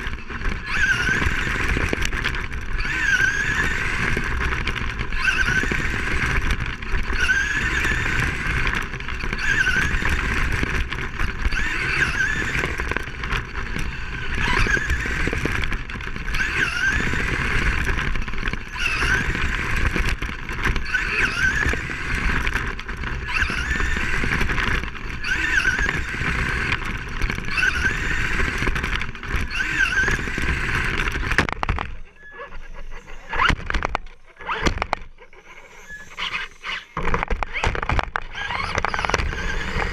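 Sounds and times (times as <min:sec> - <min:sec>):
rc car motor whine: 0:00.0 - 0:39.9
rushing driving noise: 0:00.0 - 0:39.9.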